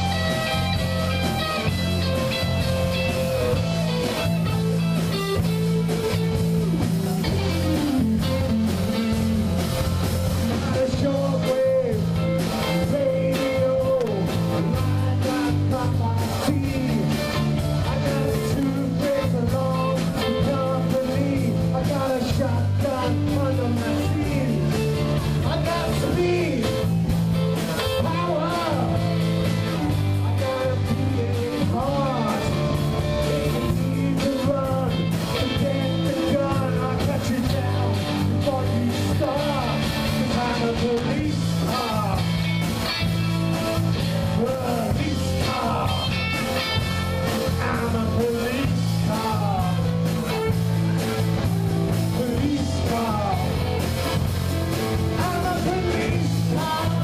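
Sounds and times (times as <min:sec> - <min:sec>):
drum kit: 0:00.0 - 0:57.0
electric bass: 0:00.0 - 0:57.0
electric guitars: 0:00.0 - 0:57.0.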